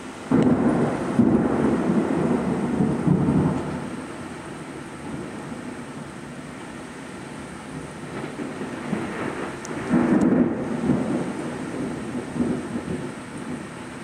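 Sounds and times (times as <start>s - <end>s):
heavy rain falling: 0.0s - 14.0s
thunder rumbling: 0.0s - 14.0s.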